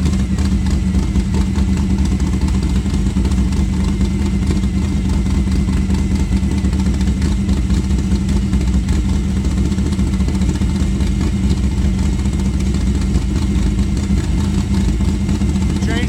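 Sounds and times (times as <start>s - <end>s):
car engine fast idle: 0.0s - 16.0s.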